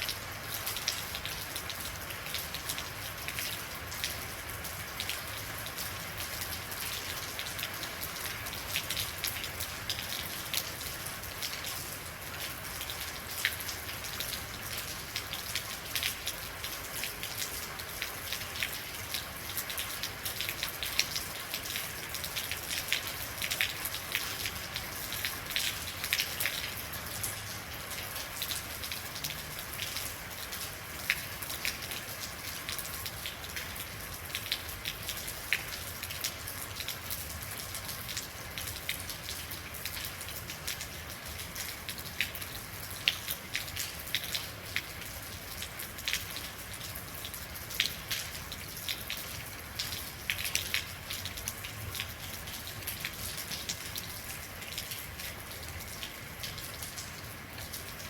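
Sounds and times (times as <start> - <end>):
rain drops hissing: 0.0 - 58.0.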